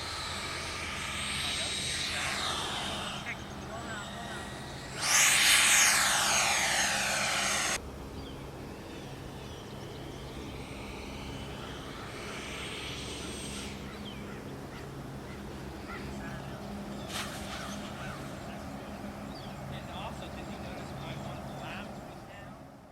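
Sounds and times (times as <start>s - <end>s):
electric ducted-fan jet whoosh: 0.0s - 22.8s.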